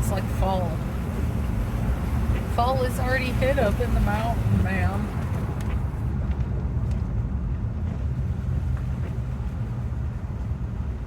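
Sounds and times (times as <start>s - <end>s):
car road noise: 0.0s - 11.0s.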